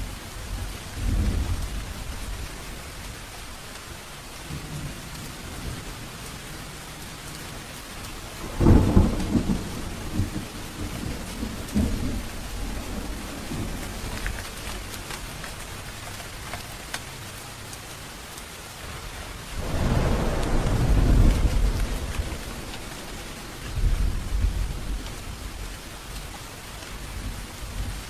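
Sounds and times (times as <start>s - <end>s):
thunder rumbling: 0.0s - 3.6s, 4.4s - 16.6s, 18.9s - 28.0s
steady rain: 0.0s - 28.0s.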